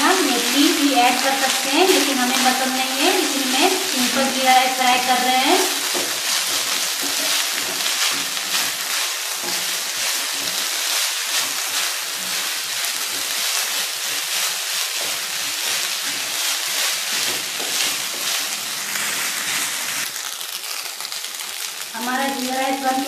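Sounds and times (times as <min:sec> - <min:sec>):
spatula stirring: 0:00.0 - 0:21.6
rice sizzling in oil: 0:00.0 - 0:23.0.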